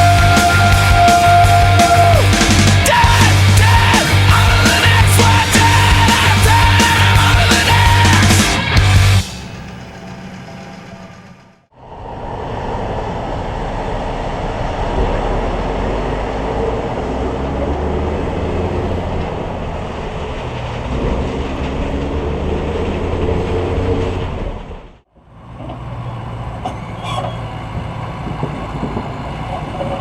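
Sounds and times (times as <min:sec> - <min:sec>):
heavy farm machinery running: 0:00.0 - 0:30.0.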